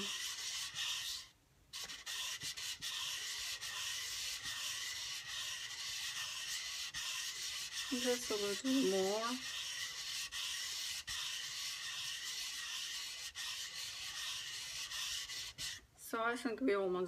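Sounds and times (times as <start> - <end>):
gritty wet sanding by hand: 0.0 - 15.8.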